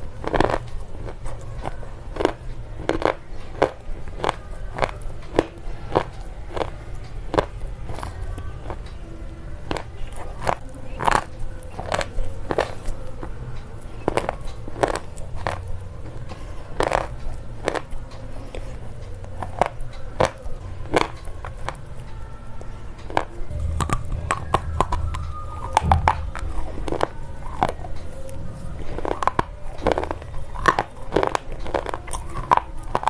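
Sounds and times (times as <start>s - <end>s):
pencil crunching between teeth: 0.0s - 8.9s, 9.6s - 22.2s, 23.0s - 33.0s.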